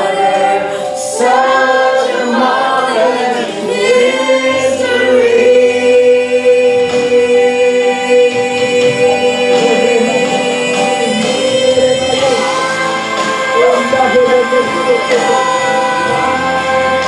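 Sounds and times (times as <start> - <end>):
accompanying music: 0.0 - 17.0
voices singing gospel: 0.0 - 17.0.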